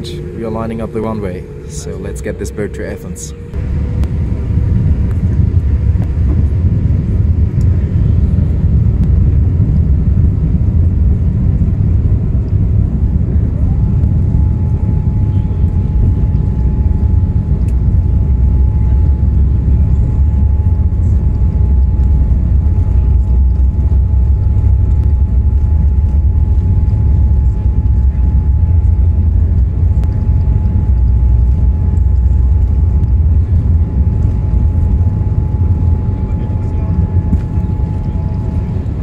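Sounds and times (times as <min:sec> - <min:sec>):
jet engine rumble in cabin: 0:00.0 - 0:39.0
thin steady whine: 0:00.0 - 0:39.0.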